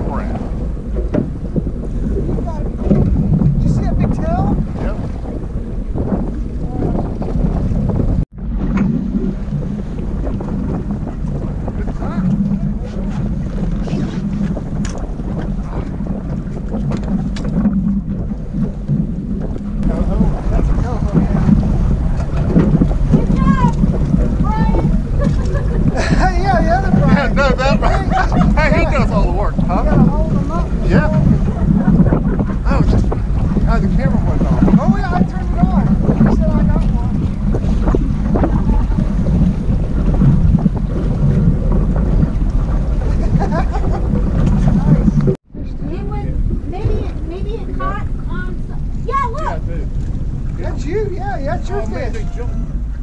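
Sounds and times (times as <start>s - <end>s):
outboard motor running: 0.0s - 53.0s
wind buffeting microphone: 0.0s - 53.0s.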